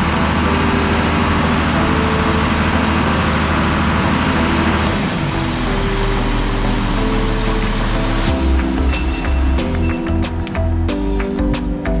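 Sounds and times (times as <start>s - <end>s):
background music: 0.0s - 12.0s
tractor diesel engine running: 0.0s - 12.0s.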